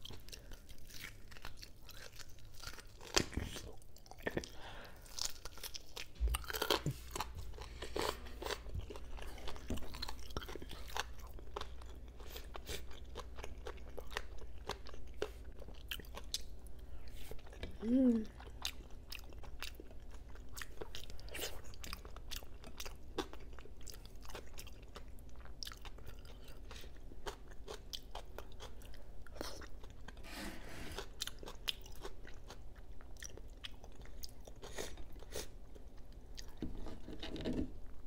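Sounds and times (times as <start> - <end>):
chewing food: 0.0 - 30.2, 31.0 - 36.6.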